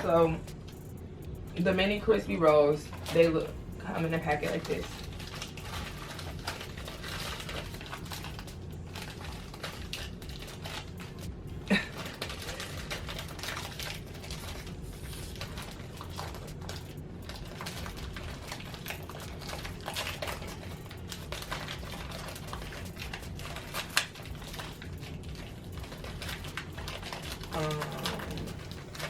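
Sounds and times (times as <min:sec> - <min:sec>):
plastic packaging crinkling: 0:02.9 - 0:29.0.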